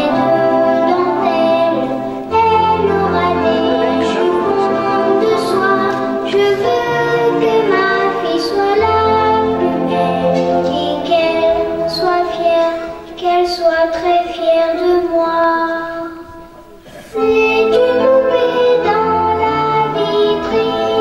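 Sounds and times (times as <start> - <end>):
song with high singing voice: 0.0 - 21.0.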